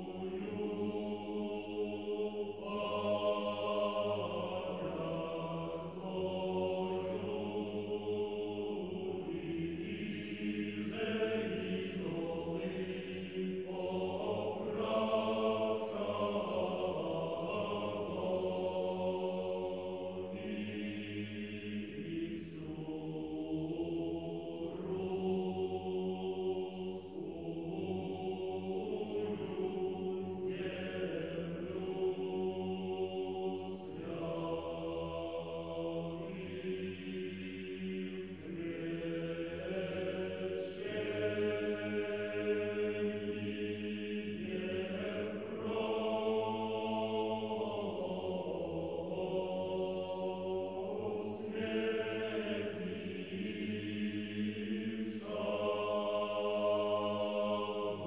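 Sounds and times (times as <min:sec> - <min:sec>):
choir chanting: 0:00.0 - 0:58.0.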